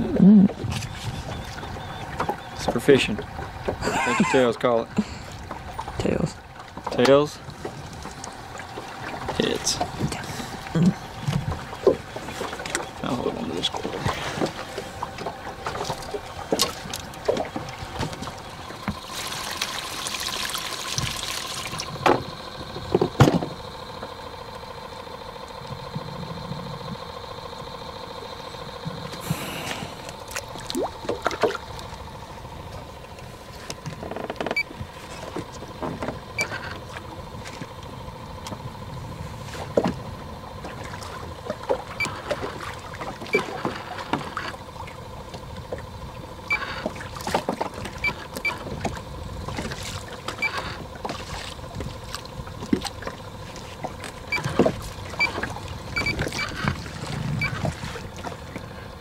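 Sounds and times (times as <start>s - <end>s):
faint steady whine: 0.0s - 59.0s
water lapping against boat hull: 0.0s - 59.0s.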